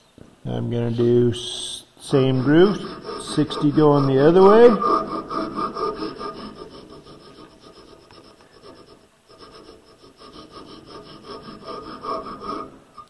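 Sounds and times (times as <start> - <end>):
hand file rasping on wood: 2.2 - 13.0.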